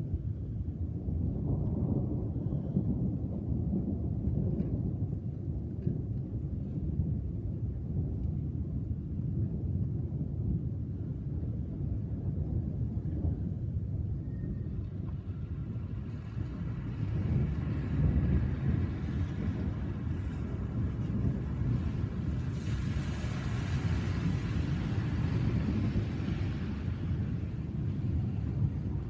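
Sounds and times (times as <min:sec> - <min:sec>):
low rolling thunder: 0:00.0 - 0:29.0.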